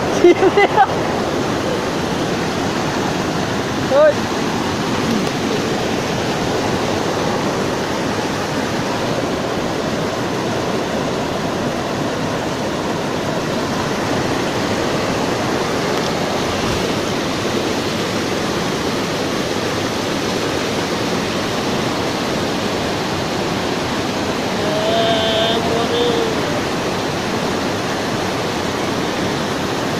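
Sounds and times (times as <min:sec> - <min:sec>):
river roaring over rocks: 0:00.0 - 0:29.9.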